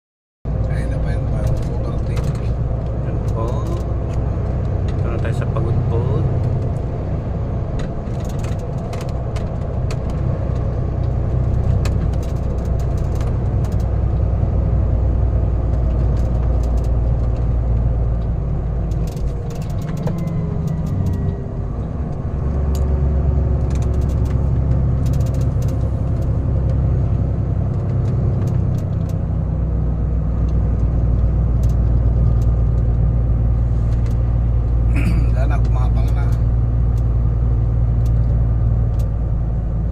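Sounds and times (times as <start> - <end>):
road noise: 0.5 - 39.9
truck engine drone: 0.5 - 39.9.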